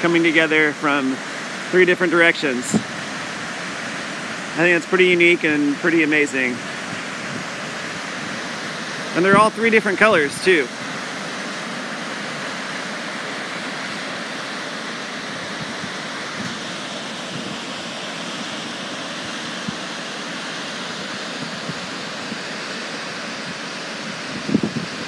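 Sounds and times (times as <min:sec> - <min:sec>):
waterfalls rushing into pool: 0:00.0 - 0:25.0.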